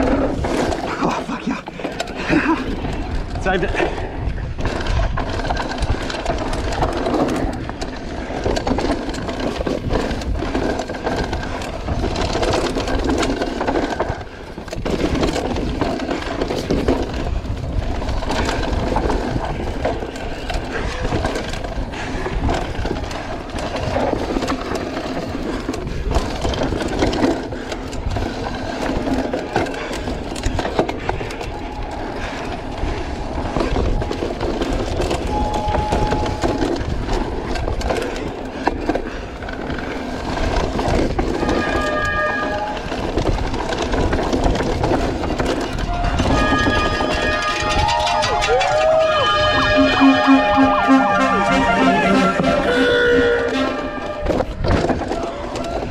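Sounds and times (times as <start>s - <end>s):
bike rattling over bumps: 0.0s - 55.9s
tyres rolling over dirt: 0.0s - 55.9s.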